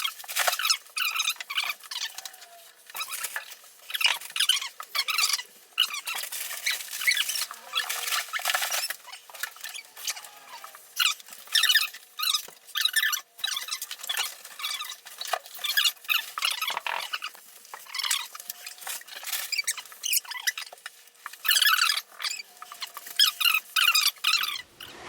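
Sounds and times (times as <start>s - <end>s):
demolition scraping and creaking wood: 0.0s - 25.0s.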